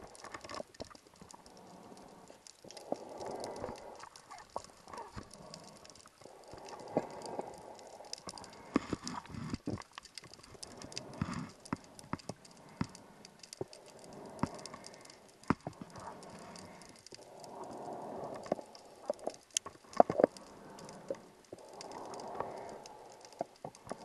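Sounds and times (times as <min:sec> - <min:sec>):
sharp underwater clicks: 0:00.0 - 0:24.0.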